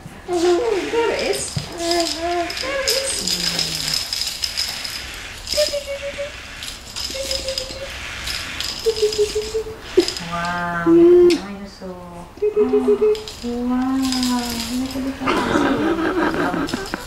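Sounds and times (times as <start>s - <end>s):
baby rattle jingling: 0.3s - 10.7s, 12.5s - 17.0s.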